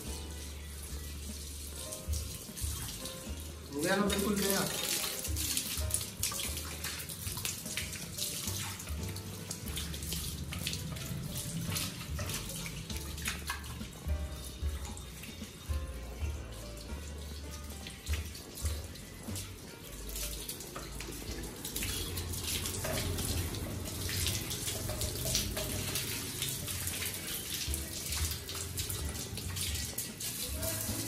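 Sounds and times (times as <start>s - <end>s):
hose water splashing on metal: 0.0s - 31.0s.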